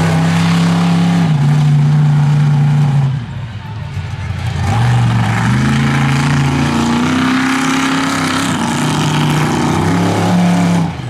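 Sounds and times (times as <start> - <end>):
monster truck engine revving: 0.0 - 3.3, 4.0 - 11.0.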